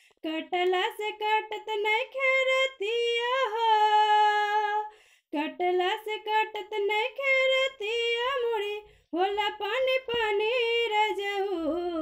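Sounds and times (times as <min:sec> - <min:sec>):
woman singing unaccompanied: 0:00.2 - 0:12.0.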